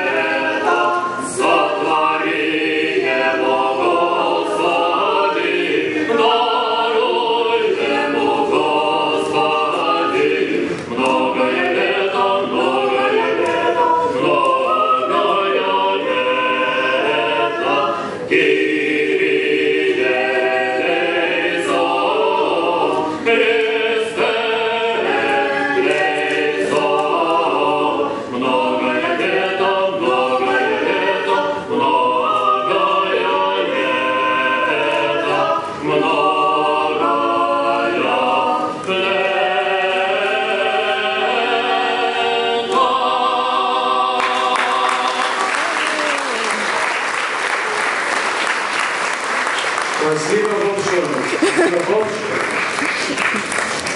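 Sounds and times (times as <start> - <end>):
choir singing unaccompanied: 0.0 - 49.5.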